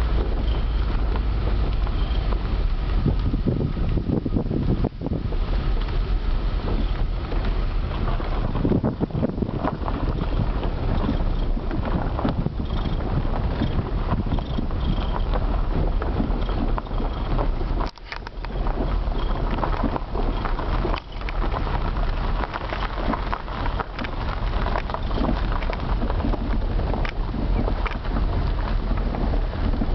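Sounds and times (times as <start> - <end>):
car tyre and running noise: 0.0 - 29.9
wind buffeting microphone: 0.0 - 29.9.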